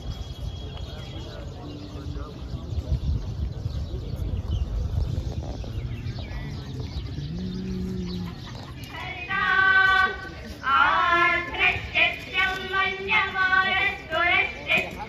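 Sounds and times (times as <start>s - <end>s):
crowd murmur: 0.0s - 15.0s.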